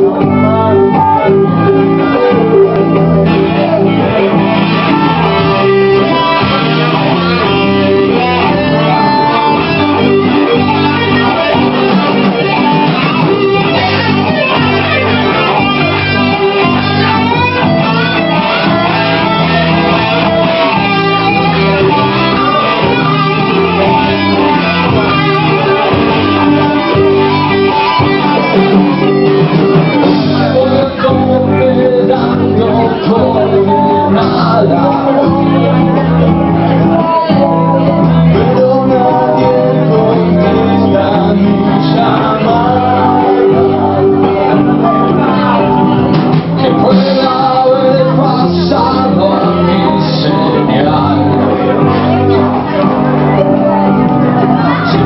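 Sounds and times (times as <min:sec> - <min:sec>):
live band playing guitar-led music: 0:00.0 - 0:55.0.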